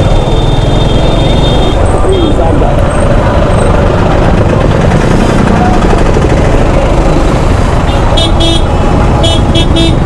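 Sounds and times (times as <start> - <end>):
motorcycle engine running: 0.0 - 10.0
road traffic noise: 0.0 - 10.0.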